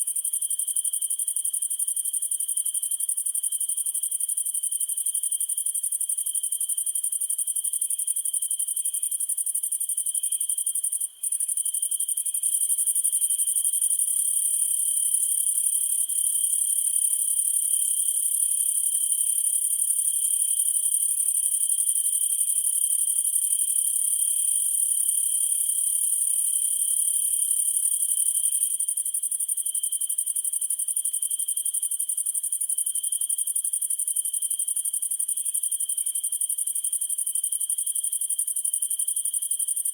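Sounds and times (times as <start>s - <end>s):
low steady insect trill: 0.0s - 39.9s.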